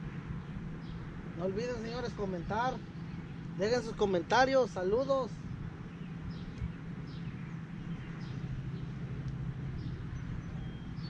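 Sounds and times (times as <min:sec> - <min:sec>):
birds chirping faintly: 0:00.0 - 0:11.0
steady low rumble: 0:00.0 - 0:11.0.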